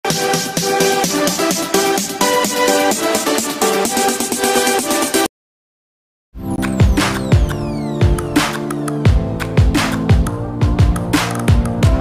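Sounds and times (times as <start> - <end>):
upbeat electronic music: 0.0 - 5.3, 6.4 - 12.0.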